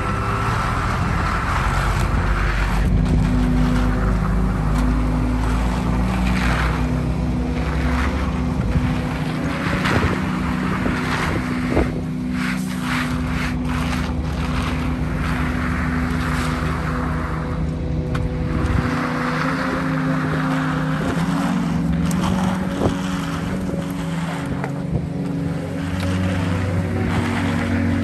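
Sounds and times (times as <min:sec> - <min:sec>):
heavy machinery engine running: 0:00.0 - 0:28.0.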